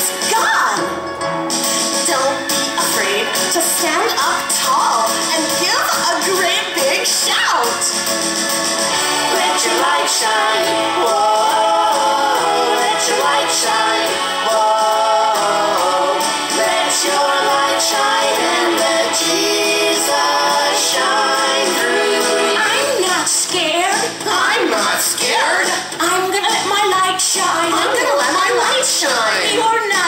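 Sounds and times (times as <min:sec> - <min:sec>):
song with singing voices: 0:00.0 - 0:30.0.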